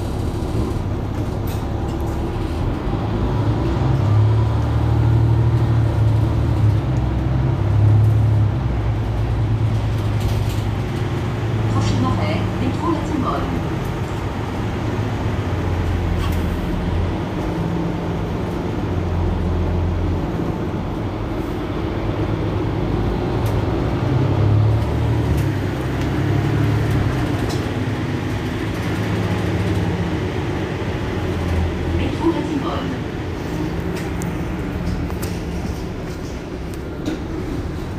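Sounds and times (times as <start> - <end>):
bus diesel engine idling: 0.0 - 37.9
street noise: 0.0 - 37.9.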